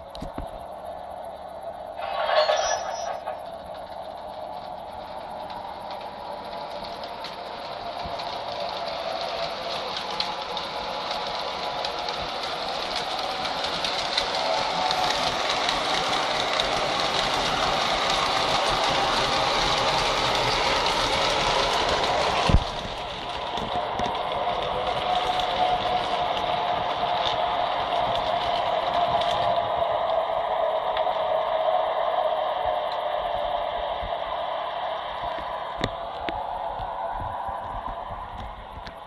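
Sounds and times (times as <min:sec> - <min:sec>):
model train whirring on track: 0:00.0 - 0:39.0.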